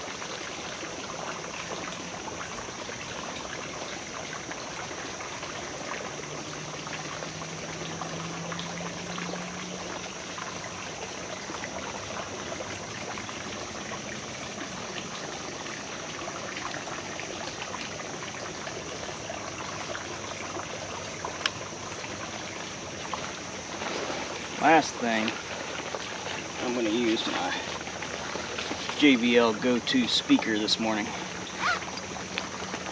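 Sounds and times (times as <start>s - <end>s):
creek water trickling: 0.0s - 32.9s.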